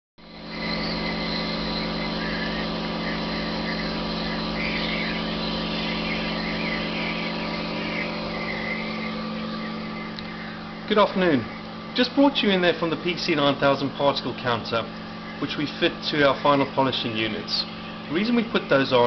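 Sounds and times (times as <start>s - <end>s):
electric pump motor humming: 0.2s - 19.0s.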